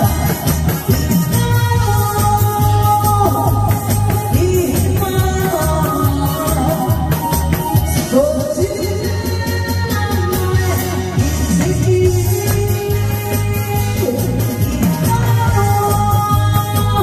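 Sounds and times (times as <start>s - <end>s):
backing track with beat and bass: 0.0s - 17.0s
person singing through pa: 0.0s - 17.0s.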